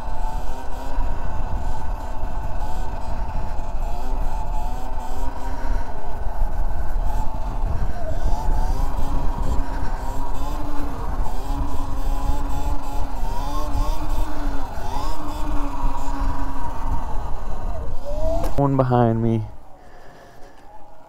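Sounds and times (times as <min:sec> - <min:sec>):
electric motor whining: 0:00.0 - 0:21.0
wind rumble on microphone: 0:00.0 - 0:21.0.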